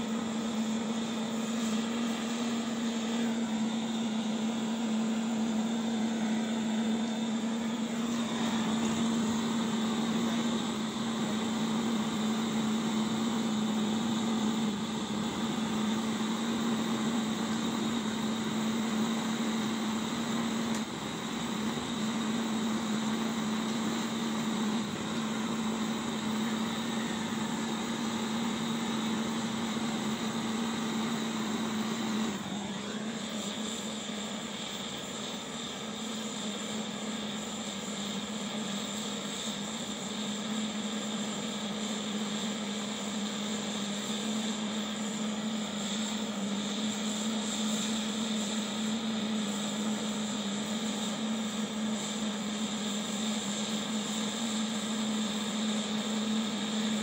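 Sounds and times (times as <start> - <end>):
blowtorch burning: 0.0 - 57.0.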